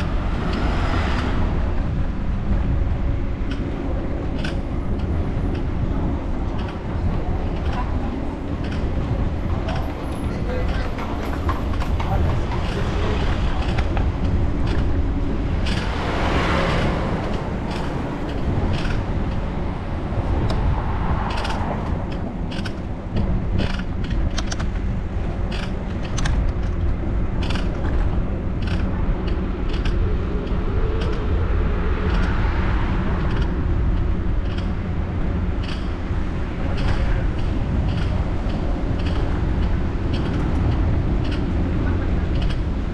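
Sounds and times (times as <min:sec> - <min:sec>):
bike clicks and rattles: 0:00.0 - 0:42.9
wind and road rumble: 0:00.0 - 0:42.9.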